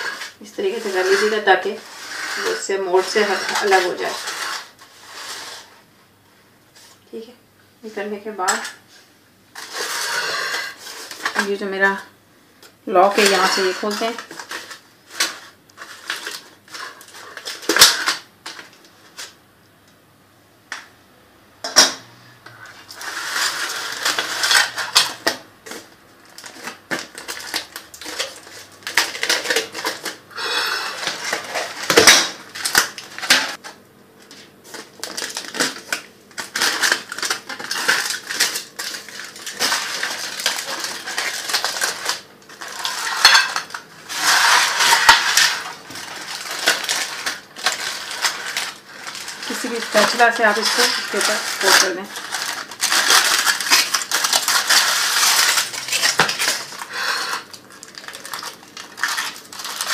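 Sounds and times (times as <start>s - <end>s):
foil crinkling: 0.0s - 5.7s, 9.6s - 12.0s, 12.9s - 19.4s, 22.7s - 33.6s, 34.2s - 59.9s.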